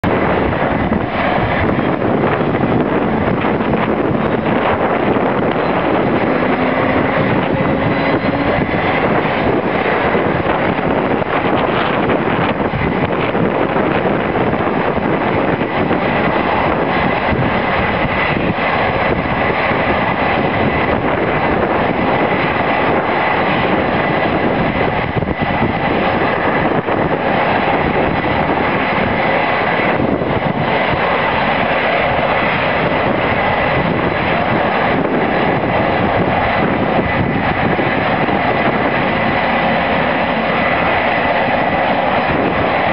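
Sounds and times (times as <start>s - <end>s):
jet engines idling with whine: 0.0s - 42.9s.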